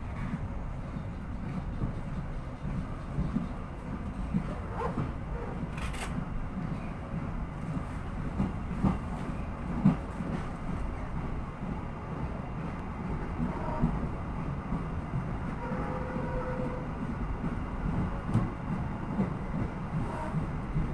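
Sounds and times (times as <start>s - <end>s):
train carriage rumble: 0.0s - 20.9s.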